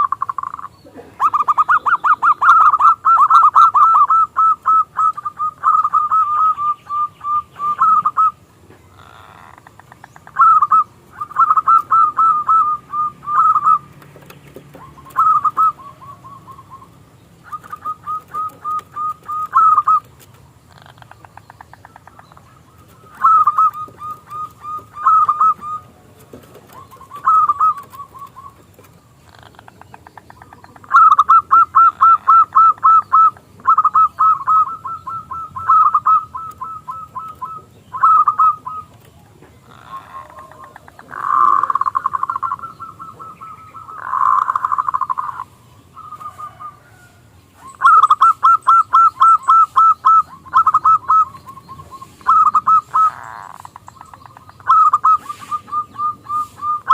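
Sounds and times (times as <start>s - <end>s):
dove cooing: 0.0s - 56.9s.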